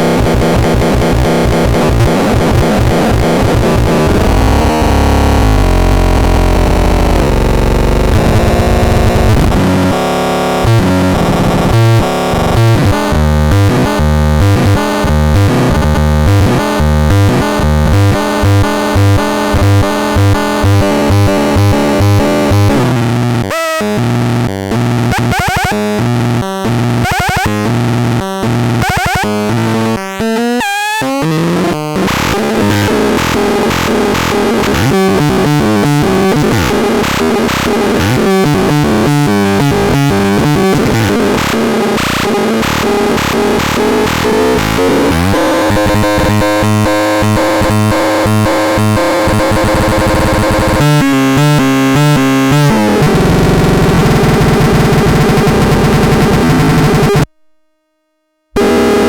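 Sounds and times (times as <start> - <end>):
harsh glitchy synthesizer tones: 0.0 - 57.3, 58.6 - 59.0.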